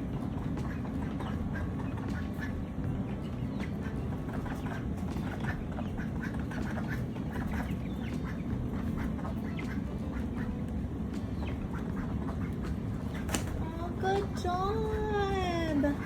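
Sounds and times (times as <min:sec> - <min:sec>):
ducklings peeping: 0:00.0 - 0:16.0
steady low rumble: 0:00.0 - 0:16.0.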